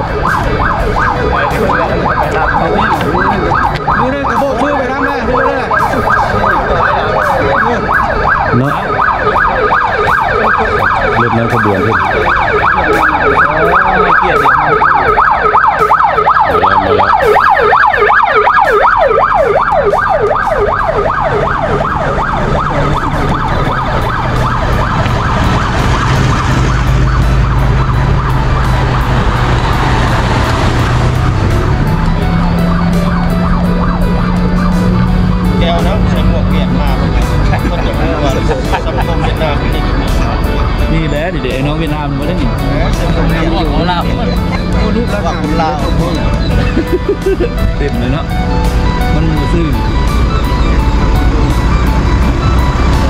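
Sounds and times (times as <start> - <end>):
cars passing: 0.0 - 53.0
police siren yelp: 0.0 - 53.0.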